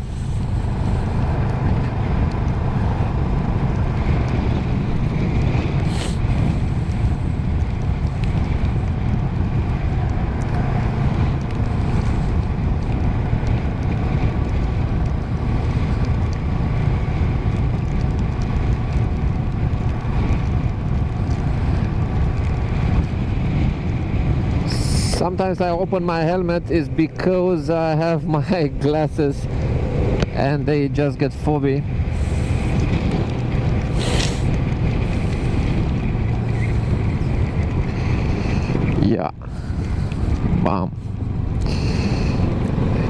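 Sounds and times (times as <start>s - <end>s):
road noise: 0.0s - 43.0s
wind buffeting the microphone: 0.0s - 43.0s.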